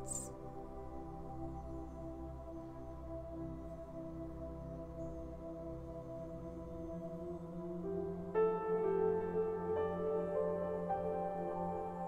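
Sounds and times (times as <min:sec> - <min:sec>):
ambient meditation music: 0:00.0 - 0:12.0.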